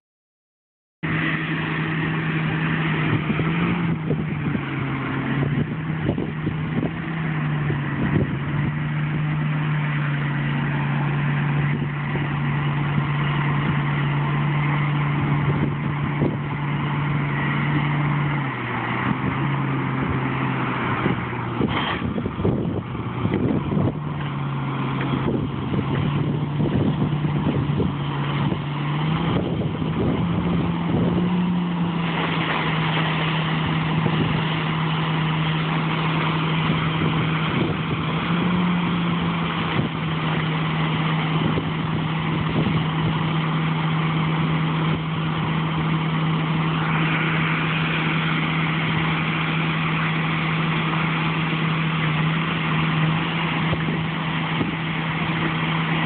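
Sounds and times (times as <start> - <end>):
harvest machinery engine hum: 1.0 - 56.0
mechanical rushing noise: 1.0 - 56.0.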